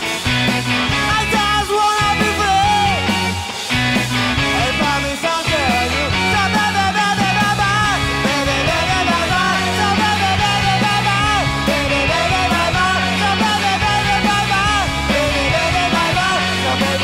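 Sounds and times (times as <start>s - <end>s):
bass line: 0.0s - 17.0s
drums: 0.0s - 17.0s.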